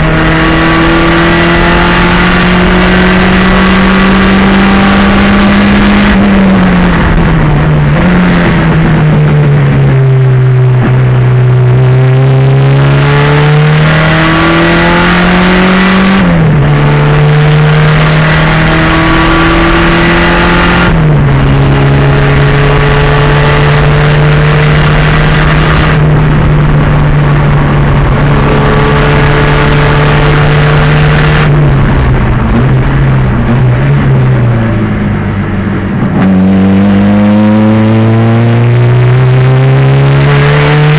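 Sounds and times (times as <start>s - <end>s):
turbo car engine running hard: 0.0s - 40.9s.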